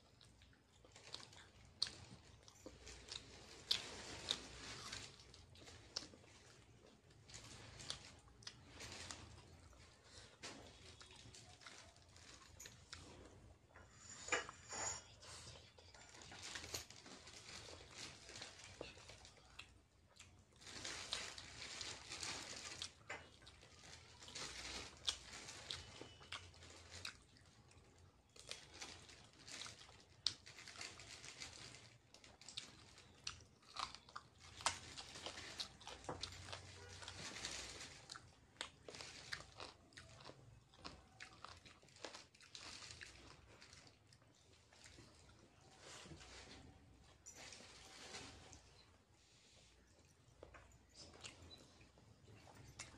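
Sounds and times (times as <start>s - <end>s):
person chewing food: 0.0s - 14.2s, 15.3s - 52.9s.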